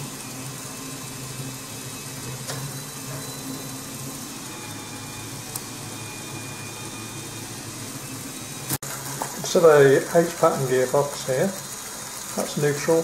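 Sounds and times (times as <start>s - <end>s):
electric motor and gears humming: 0.0s - 13.0s.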